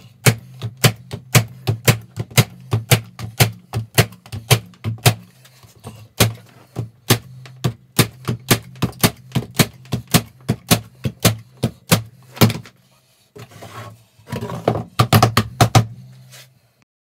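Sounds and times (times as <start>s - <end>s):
wooden boards knocking and clattering: 0.3s - 12.8s, 14.3s - 16.0s.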